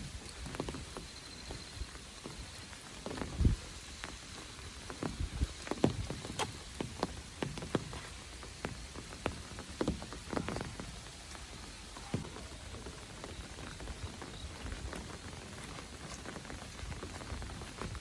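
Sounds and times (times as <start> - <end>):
rain hissing: 0.0 - 18.0
raindrops splashing: 0.0 - 18.0.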